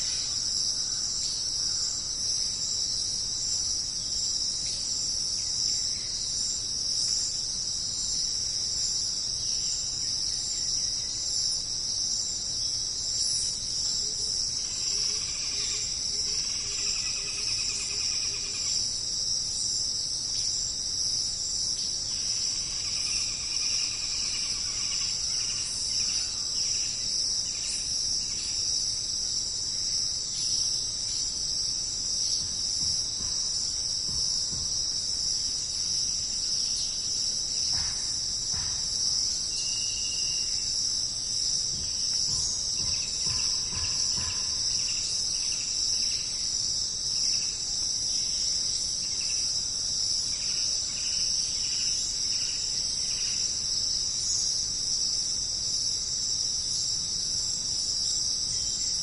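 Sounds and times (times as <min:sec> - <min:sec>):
shrill insect chorus: 0:00.0 - 0:59.0.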